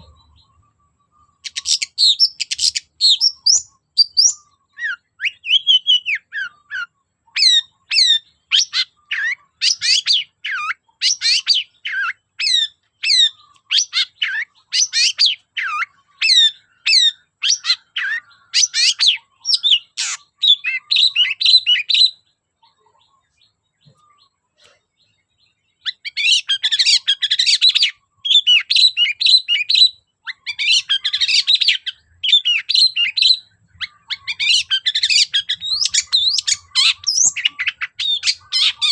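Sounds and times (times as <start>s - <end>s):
bird singing sharp repeated notes: 0.0s - 38.9s.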